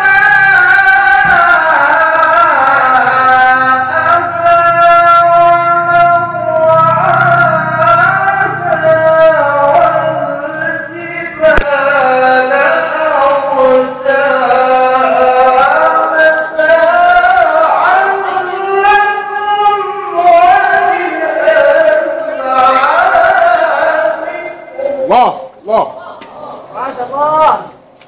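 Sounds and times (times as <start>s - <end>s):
man reciting into a microphone: 0.0s - 28.0s.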